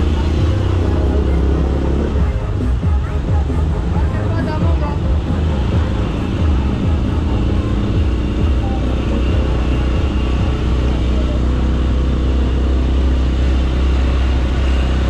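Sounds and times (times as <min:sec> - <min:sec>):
motor-tricycle engine droning: 0:00.0 - 0:15.0.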